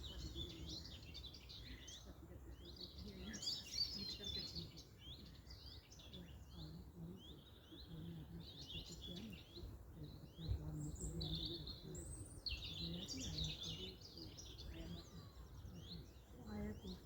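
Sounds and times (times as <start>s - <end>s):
faint low murmur: 0.0s - 17.0s
songbirds chirping and singing: 0.0s - 17.0s.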